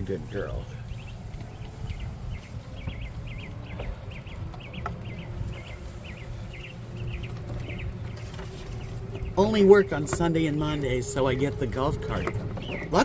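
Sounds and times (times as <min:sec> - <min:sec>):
bird chirping: 0:00.0 - 0:13.0
steady low rumble: 0:00.0 - 0:13.0.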